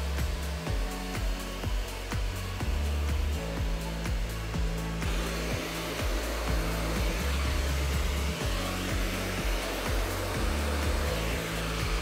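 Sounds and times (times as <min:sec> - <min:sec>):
background music with bass and beat: 0:00.0 - 0:12.0
vacuum cleaner running: 0:00.0 - 0:12.0.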